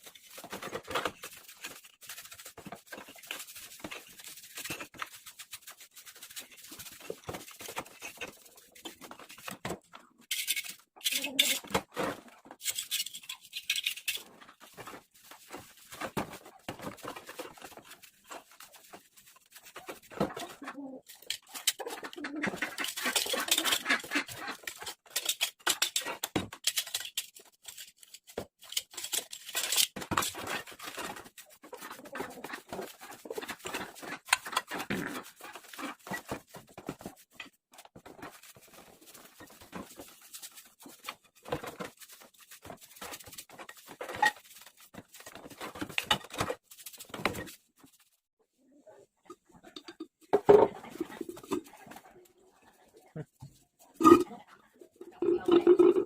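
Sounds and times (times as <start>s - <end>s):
scraping and brushing hand work: 0.0s - 48.8s, 50.7s - 56.0s.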